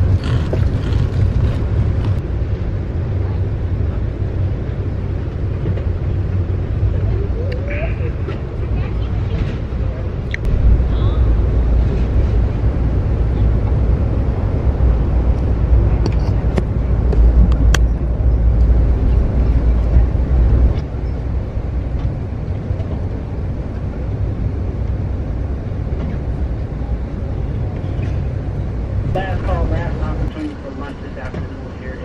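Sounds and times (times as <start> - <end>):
train rumble from inside coach: 0.0 - 32.0.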